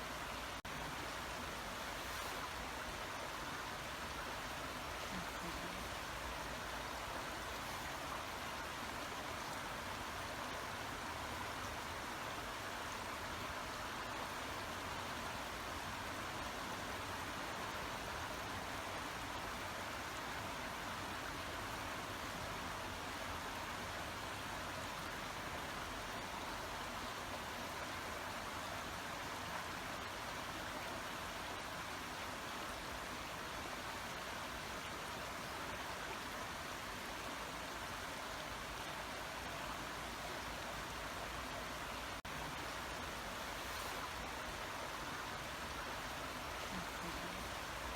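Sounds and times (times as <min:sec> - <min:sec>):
brook running water: 0:00.0 - 0:47.9.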